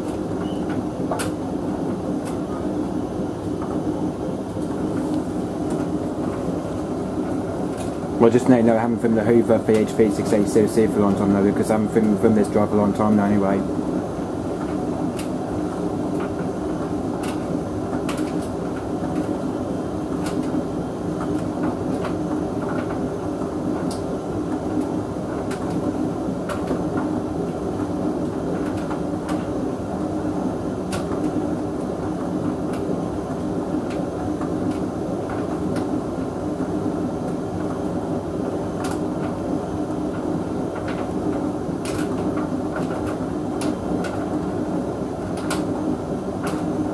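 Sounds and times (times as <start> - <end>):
tumble dryer running: 0.0 - 46.9.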